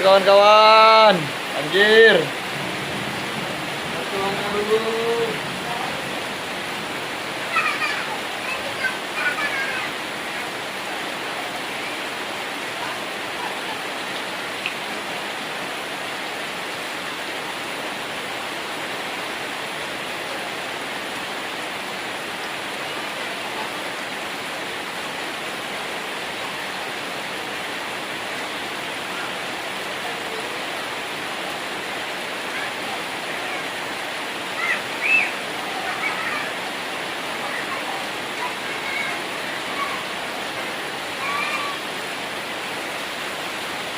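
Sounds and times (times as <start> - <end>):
heavy rain pouring: 0.0 - 43.9
rushing water: 0.0 - 43.9.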